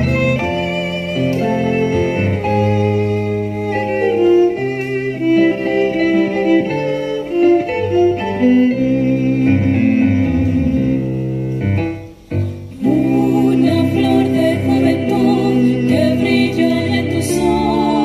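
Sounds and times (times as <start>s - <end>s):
violin playing: 0.0s - 11.6s, 12.8s - 18.0s
piano accompaniment: 0.0s - 18.0s.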